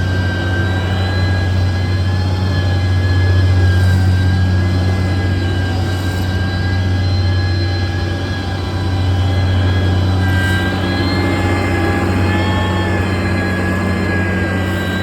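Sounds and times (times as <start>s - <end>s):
deep engine drone: 0.0s - 15.0s
high wavering whine: 0.0s - 15.0s.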